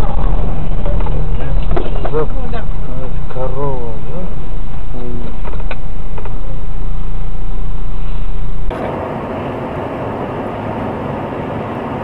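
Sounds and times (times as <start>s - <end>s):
vehicle road noise: 0.0s - 12.0s.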